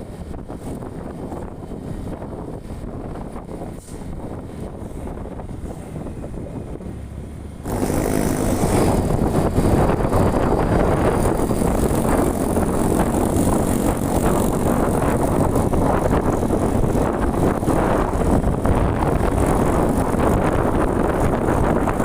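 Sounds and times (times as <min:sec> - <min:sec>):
vehicle road and wind noise: 0:00.0 - 0:22.0.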